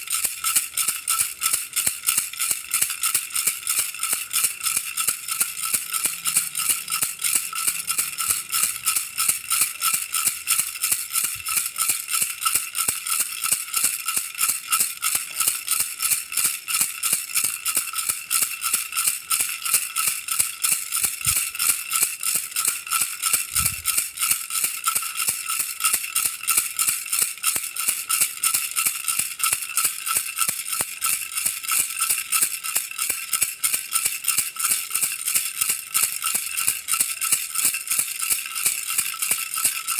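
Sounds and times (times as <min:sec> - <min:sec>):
toy rattle shaken: 0:00.0 - 0:39.9.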